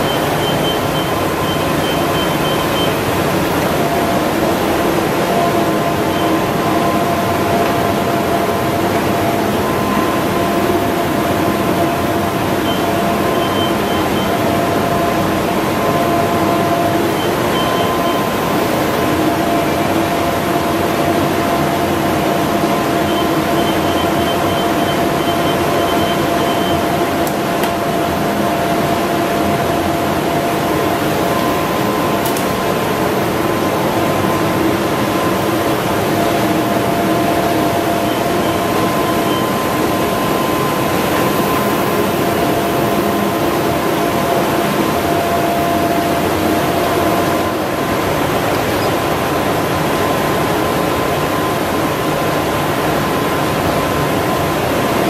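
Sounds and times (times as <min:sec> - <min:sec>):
machine whining tones: 0:00.0 - 0:49.2
printing press mechanical drone: 0:00.0 - 0:55.0.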